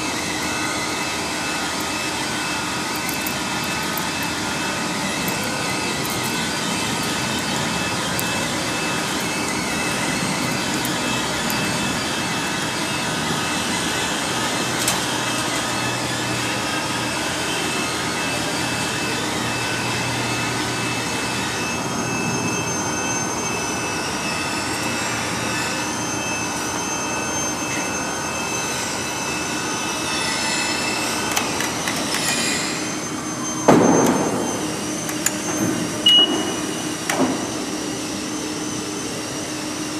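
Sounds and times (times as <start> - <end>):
faint high whine: 0.0 - 39.9
paper cutter whirring hum: 0.0 - 39.9.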